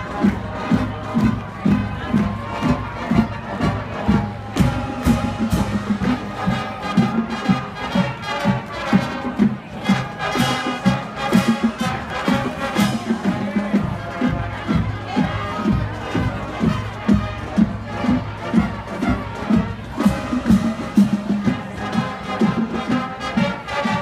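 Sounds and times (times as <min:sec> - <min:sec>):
marching band brass: 0:00.0 - 0:24.0
steady drum beat: 0:00.0 - 0:24.0.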